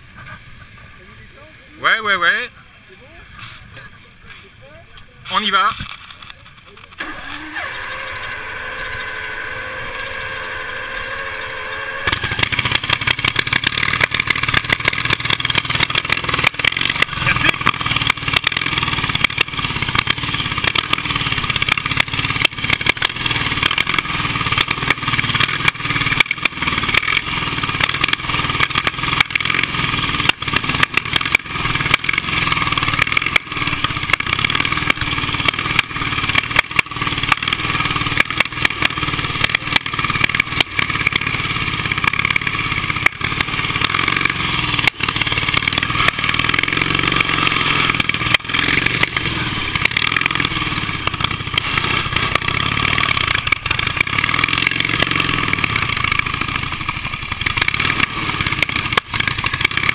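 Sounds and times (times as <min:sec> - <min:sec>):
motorcycle engine starting and running: 0:00.0 - 0:59.9.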